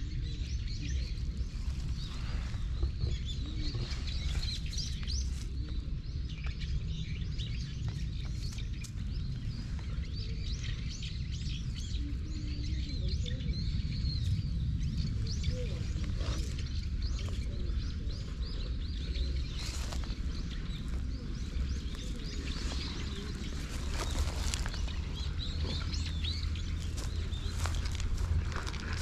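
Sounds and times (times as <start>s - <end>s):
low rumble: 0.0s - 29.0s
small birds chirping: 0.0s - 29.0s.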